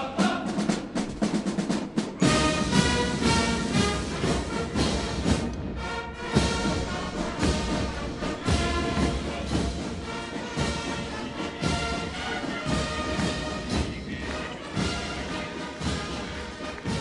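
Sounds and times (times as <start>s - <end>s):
brass band playing a march: 0.0s - 17.0s
heavy drum beat: 0.0s - 17.0s.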